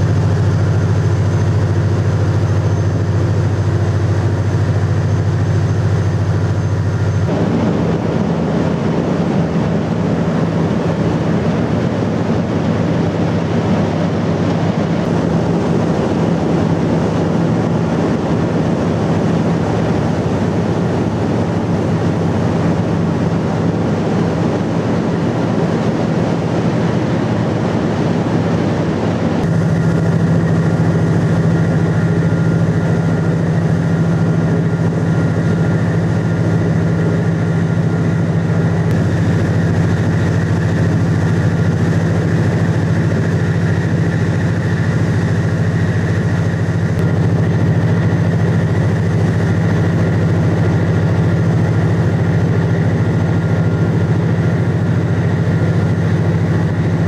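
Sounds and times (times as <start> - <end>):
boat engines droning: 0.0 - 57.0
wind: 0.0 - 57.0.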